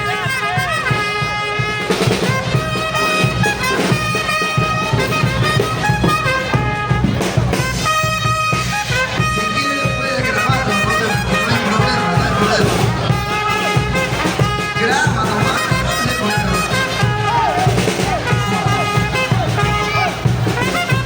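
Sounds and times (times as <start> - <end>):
brass horns holding long notes: 0.0 - 21.0
steady drum beat: 0.2 - 21.0.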